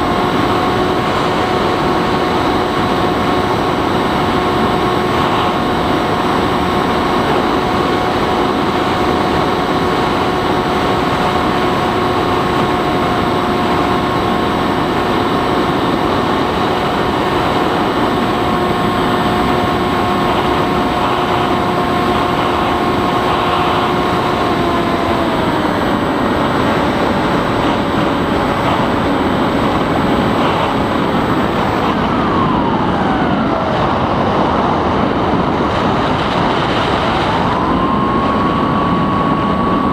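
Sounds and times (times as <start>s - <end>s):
electric motor and propeller whining: 0.0s - 39.9s
loud wind rush: 0.0s - 39.9s.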